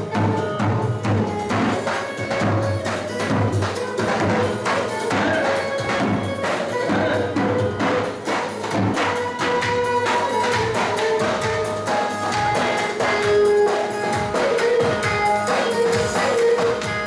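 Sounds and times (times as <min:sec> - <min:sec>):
bass drum beating dance rhythm: 0:00.0 - 0:17.0
held melody line: 0:00.0 - 0:17.0.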